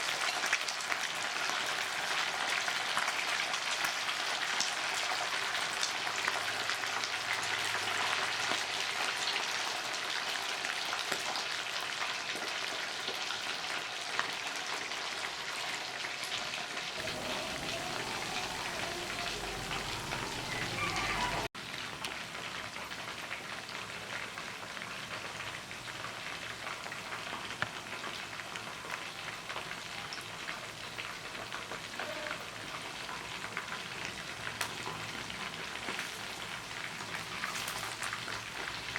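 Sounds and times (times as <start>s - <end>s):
food frying in hot oil: 0.0s - 38.9s.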